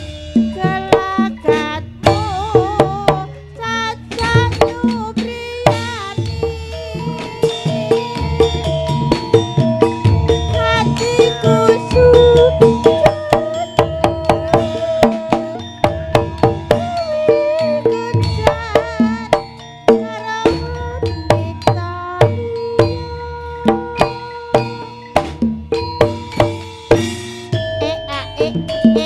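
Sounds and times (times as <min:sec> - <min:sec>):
hand drum strokes: 0:00.0 - 0:29.0
ringing metallophone notes: 0:00.0 - 0:29.0
wavering melodic lead: 0:00.0 - 0:29.0.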